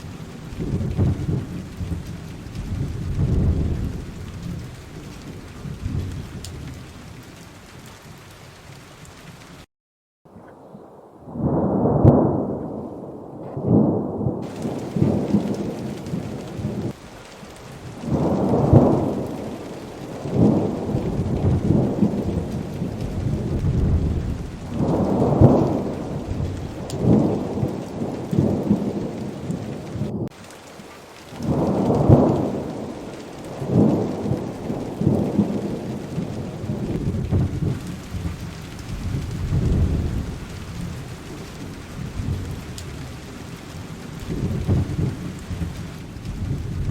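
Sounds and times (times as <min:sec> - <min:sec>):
heavy rain: 0:00.0 - 0:09.7, 0:10.6 - 0:46.9
thunder rolling: 0:00.4 - 0:07.0, 0:10.3 - 0:17.0, 0:17.7 - 0:30.4, 0:31.3 - 0:46.9.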